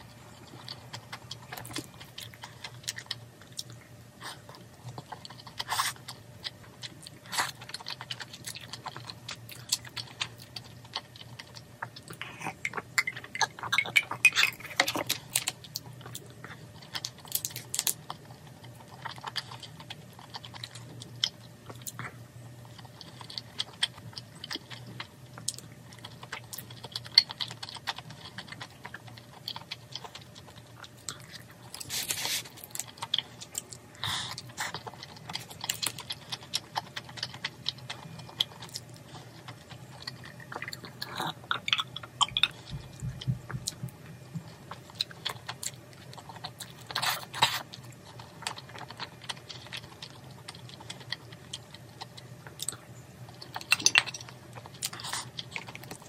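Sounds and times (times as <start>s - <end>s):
chewing soft food: 0.0s - 56.0s
faint steady hum: 0.0s - 56.0s.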